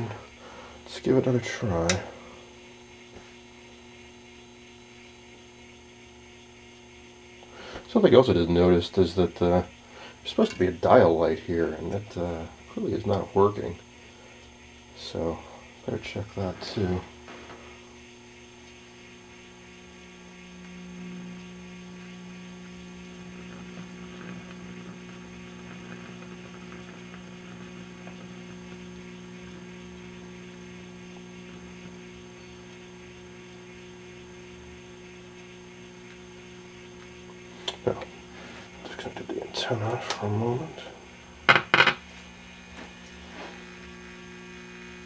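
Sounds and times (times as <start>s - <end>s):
radio speaker mains hum: 0.0s - 45.0s.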